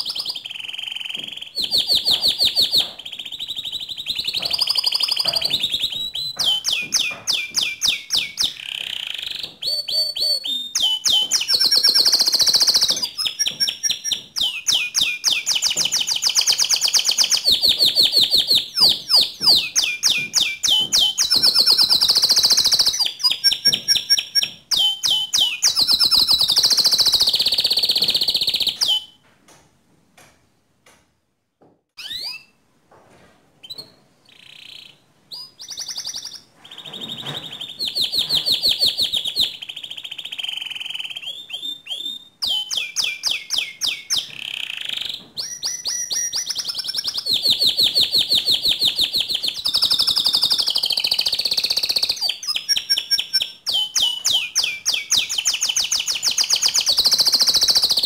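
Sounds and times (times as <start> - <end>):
canary singing trills: 0.0 - 29.2, 32.0 - 32.6, 33.6 - 58.0.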